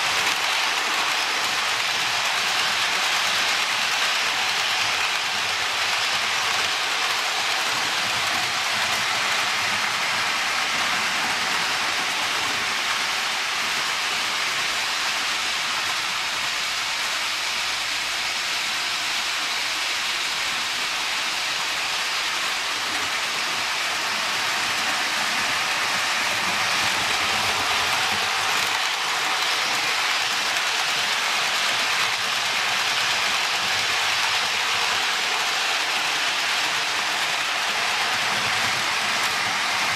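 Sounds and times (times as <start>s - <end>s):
model trains rolling on track: 0.0s - 39.9s.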